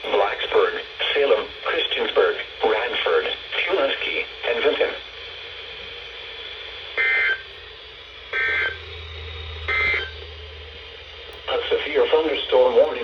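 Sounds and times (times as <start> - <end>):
low hum: 0.0 - 13.0
weather radio hiss: 0.0 - 13.0.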